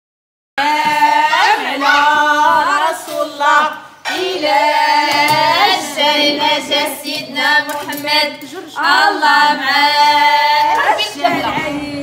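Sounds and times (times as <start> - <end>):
high voice singing: 0.6 - 12.0.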